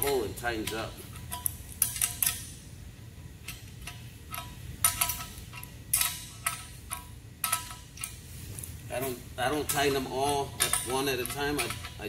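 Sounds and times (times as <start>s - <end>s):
wrench clinking on metal nut: 0.0s - 2.6s, 3.4s - 8.2s, 9.5s - 12.0s.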